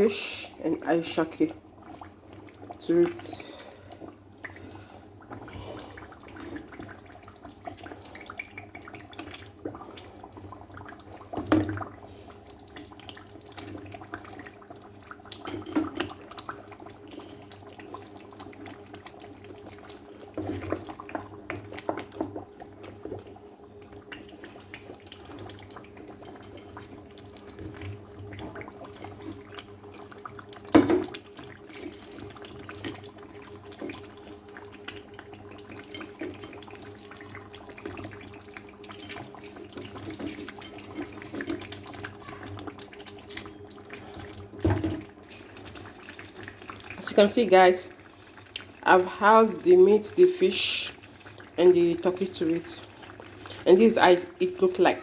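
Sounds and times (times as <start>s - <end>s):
liquid sloshing in a pot: 0.0s - 55.0s.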